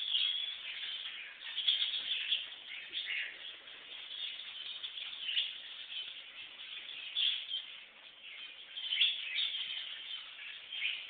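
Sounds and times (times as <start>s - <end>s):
small birds chirping and chattering: 0.0s - 11.0s.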